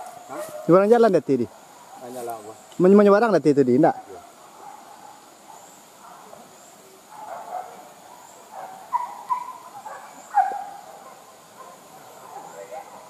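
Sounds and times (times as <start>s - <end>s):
distant dogs barking and yelping: 0.0s - 2.6s, 3.8s - 13.0s.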